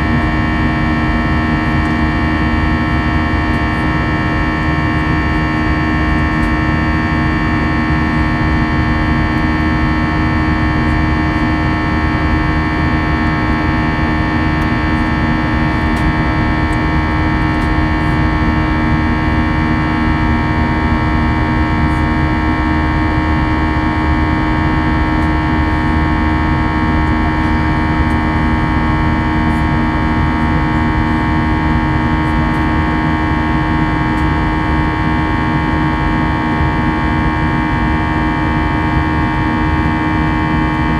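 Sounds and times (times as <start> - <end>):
airplane cabin engine noise: 0.0 - 40.9.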